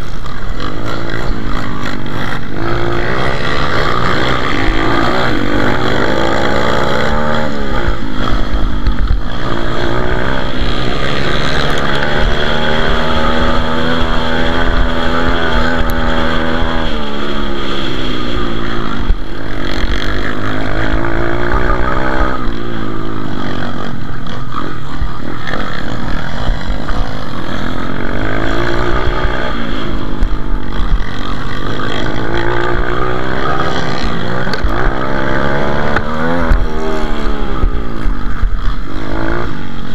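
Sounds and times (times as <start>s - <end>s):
other pit bikes running: 0.0s - 39.9s
pit bike engine revving: 0.0s - 39.9s.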